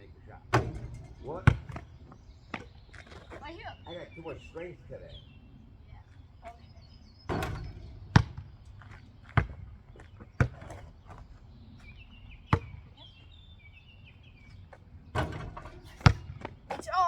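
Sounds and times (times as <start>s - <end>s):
basketball bouncing on hard ground: 0.0s - 3.9s, 6.0s - 17.0s.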